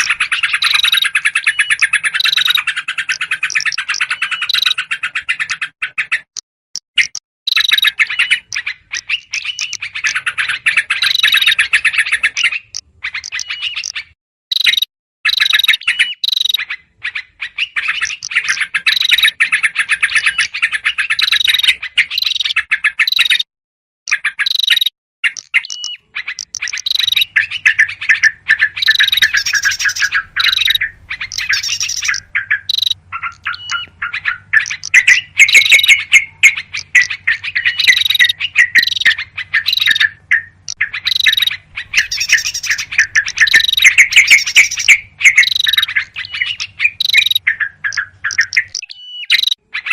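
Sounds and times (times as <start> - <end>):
bulbul calls: 0.0 - 6.4, 7.0 - 23.5, 24.1 - 49.9
songbirds chattering and chirping: 0.0 - 6.4, 7.0 - 23.5, 24.1 - 49.9.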